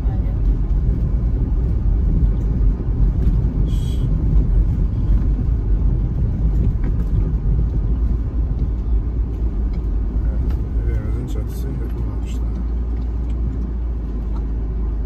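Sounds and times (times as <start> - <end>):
tyres and engine rumbling: 0.0 - 15.0.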